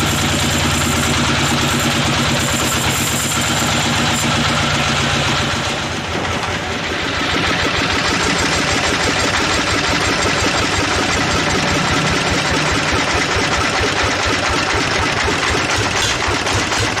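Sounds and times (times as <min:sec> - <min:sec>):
band sawmill running: 0:00.0 - 0:17.0.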